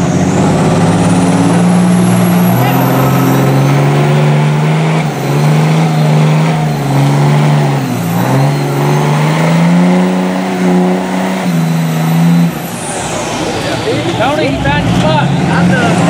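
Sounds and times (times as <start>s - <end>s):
diesel truck engine revving hard: 0.0s - 16.0s.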